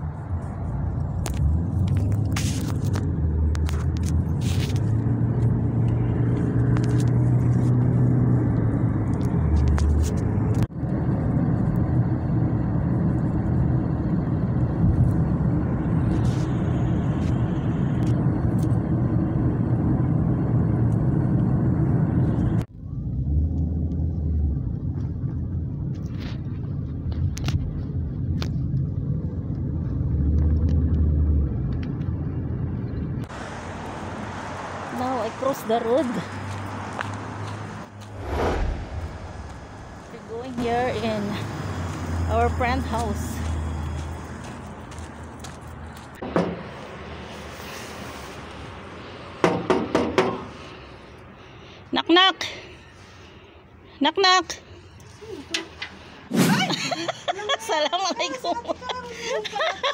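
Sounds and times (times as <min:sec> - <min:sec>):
road and engine rumble in a car: 0:00.0 - 0:59.9.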